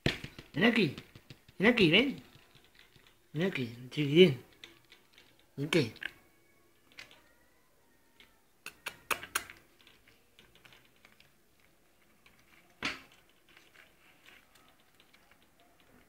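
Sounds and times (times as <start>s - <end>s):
small animals clicking and tapping: 0.0s - 7.5s, 8.1s - 16.0s.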